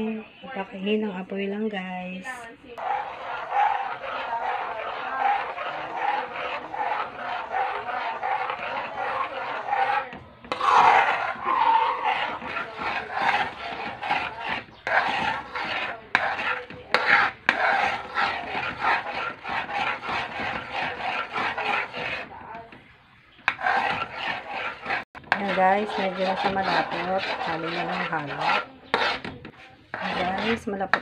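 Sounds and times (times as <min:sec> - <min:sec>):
metal spoon scraping wok: 0:02.8 - 0:22.4, 0:23.3 - 0:31.0.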